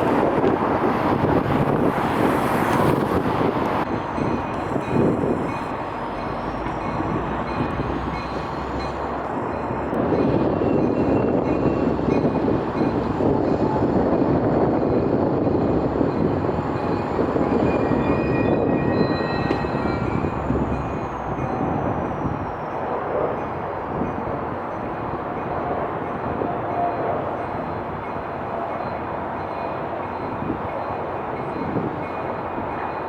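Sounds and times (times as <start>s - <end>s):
wind on microphone: 0.0s - 29.5s.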